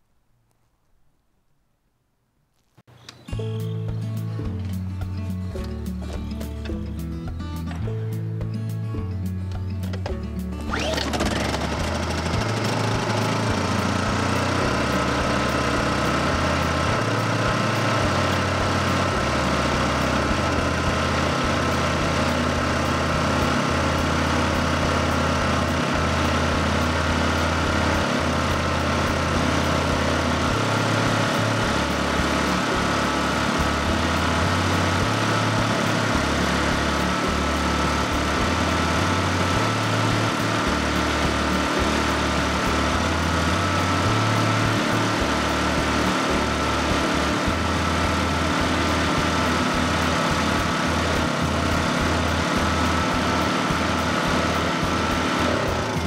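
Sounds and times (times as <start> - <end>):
generator engine running: 3.4 - 56.0.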